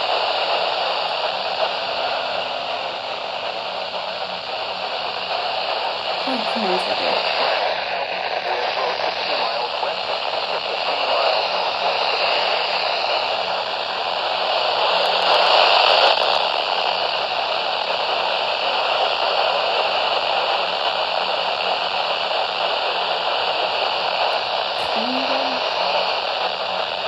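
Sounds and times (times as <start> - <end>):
radio static hissing: 0.0 - 18.7, 19.6 - 27.0.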